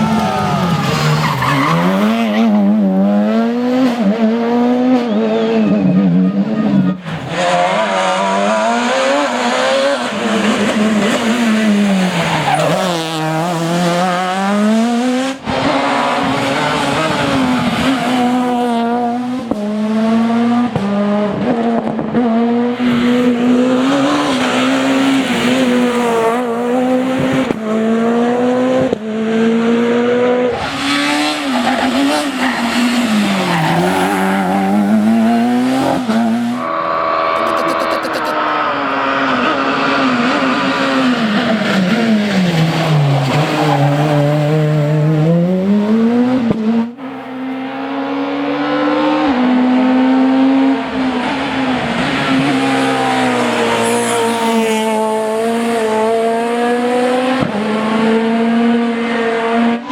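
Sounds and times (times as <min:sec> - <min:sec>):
rally car engines racing: 0:00.0 - 0:59.9.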